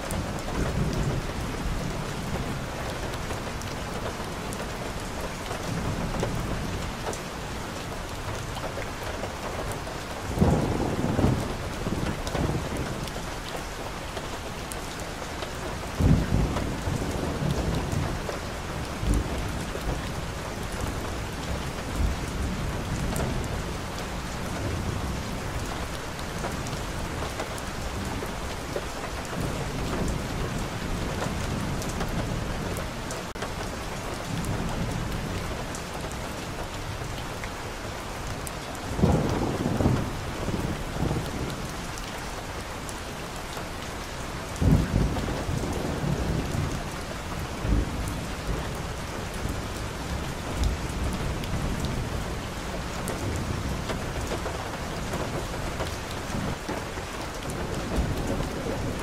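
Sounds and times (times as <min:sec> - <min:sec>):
steady rain on street and foliage: 0:00.0 - 0:59.0.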